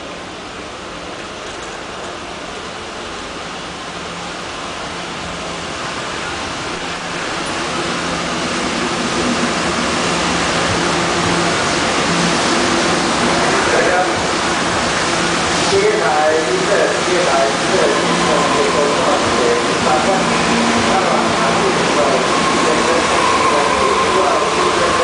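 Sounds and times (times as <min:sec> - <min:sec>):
train rushing rumble: 0:00.0 - 0:25.0.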